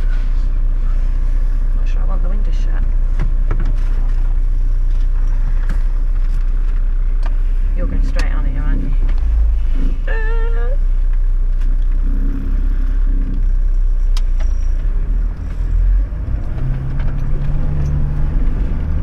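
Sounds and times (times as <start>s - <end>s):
engine rumbling inside cabin: 0.0s - 19.0s.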